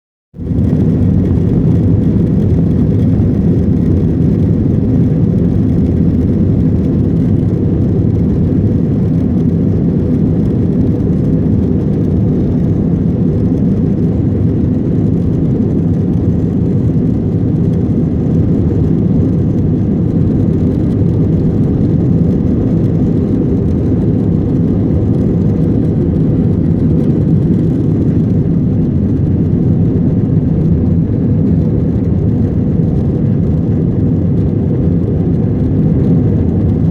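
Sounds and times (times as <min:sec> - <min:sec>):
airliner engines rumbling: 0:00.4 - 0:36.9.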